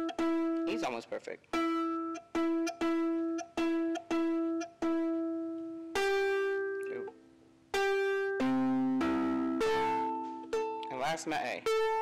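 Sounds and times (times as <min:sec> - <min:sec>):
ukulele strings plucked: 0:00.0 - 0:07.2, 0:07.8 - 0:12.0.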